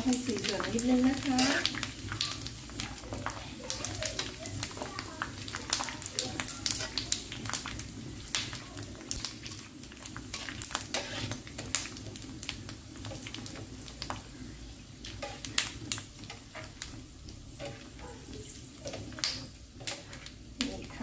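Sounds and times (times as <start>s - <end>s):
metal skimmer stirring in pan: 0.0s - 21.0s
oil sizzling and crackling: 0.0s - 21.0s.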